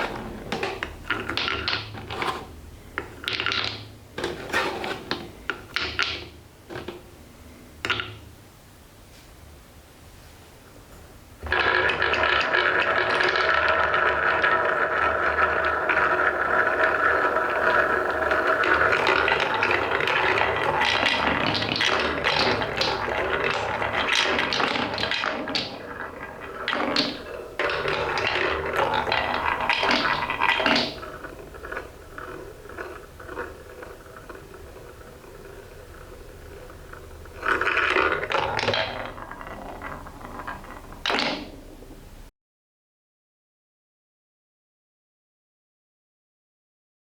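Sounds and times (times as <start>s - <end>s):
balls rolling on wooden marble run: 0.0s - 7.1s, 7.9s - 8.3s, 11.4s - 42.3s.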